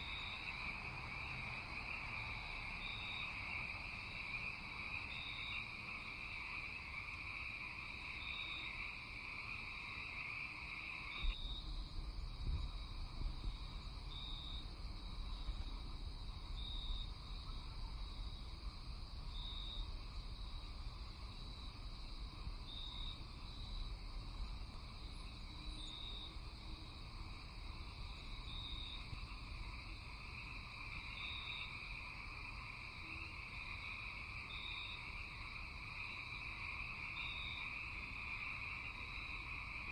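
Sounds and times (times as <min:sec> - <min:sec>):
frogs and insects chorus: 0:00.0 - 0:39.9.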